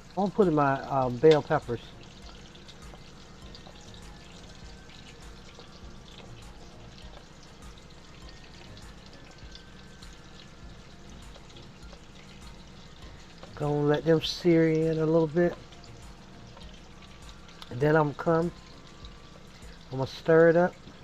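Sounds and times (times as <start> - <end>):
vegetables sizzling in a pan: 0.0 - 20.2.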